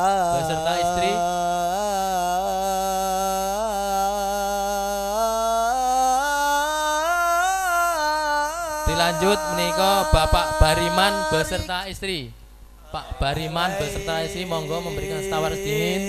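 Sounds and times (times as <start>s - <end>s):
devotional chant singing: 0.0s - 12.2s, 12.8s - 16.0s.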